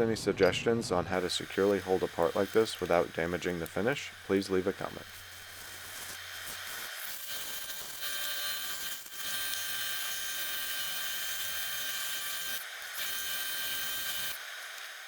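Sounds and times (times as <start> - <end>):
power tool high-pitched whine: 1.1 - 15.0.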